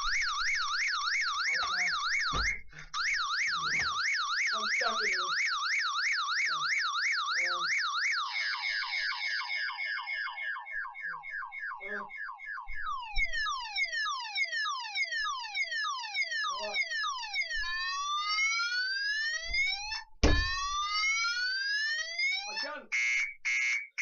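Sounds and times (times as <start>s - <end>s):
electronic fire alarm siren: 0.0s - 24.0s.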